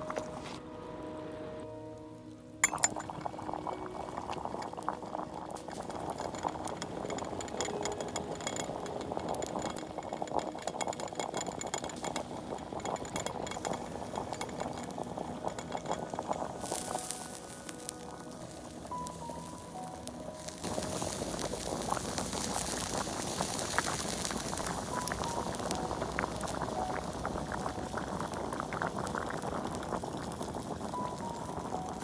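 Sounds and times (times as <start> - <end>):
wood fire crackling: 0.0 - 0.6, 2.6 - 32.0.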